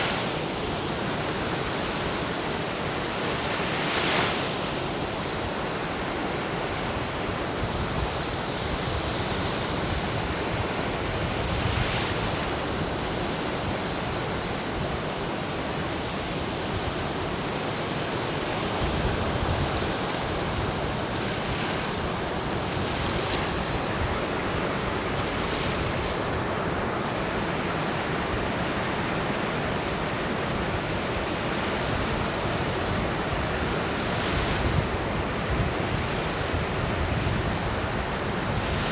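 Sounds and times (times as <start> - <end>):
waves washing onto sandy beach: 0.0 - 38.9
wind: 0.0 - 38.9.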